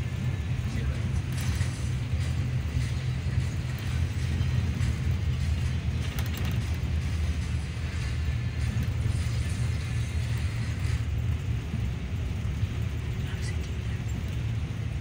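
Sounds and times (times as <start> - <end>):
bus engine and road rumble: 0.0 - 15.0
light rattles: 0.0 - 15.0.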